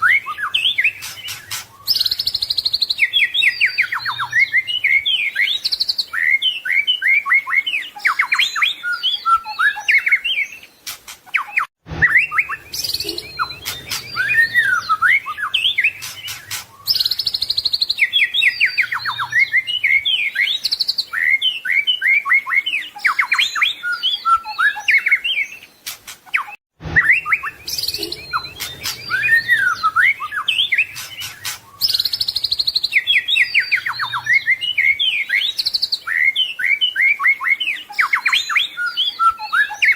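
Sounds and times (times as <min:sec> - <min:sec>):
songbird singing varied whistles: 0:00.0 - 0:39.9.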